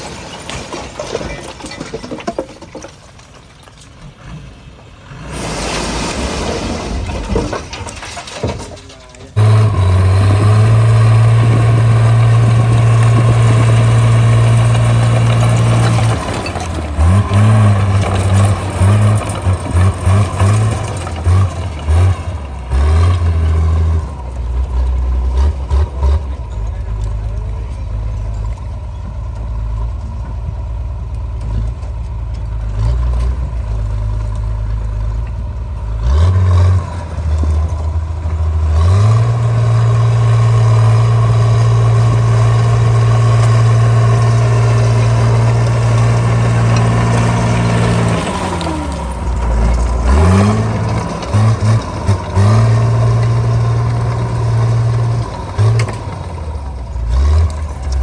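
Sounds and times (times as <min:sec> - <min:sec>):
bulldozer diesel engine revving: 0:04.0 - 0:08.4, 0:09.2 - 0:58.0.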